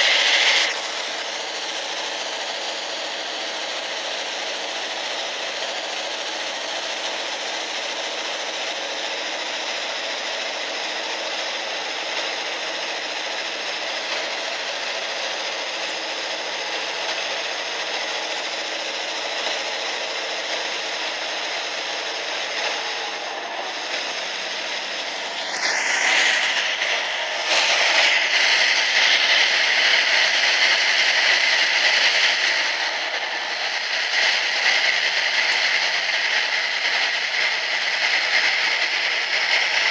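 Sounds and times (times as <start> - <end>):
train rushing through tunnel: 0.0 - 39.9.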